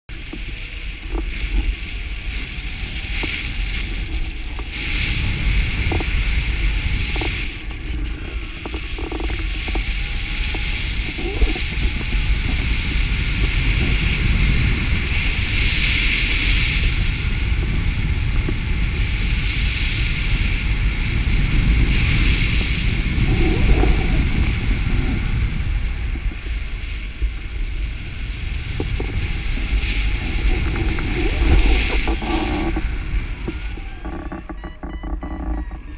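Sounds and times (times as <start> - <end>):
wind roar on microphone: 0.1 - 35.9.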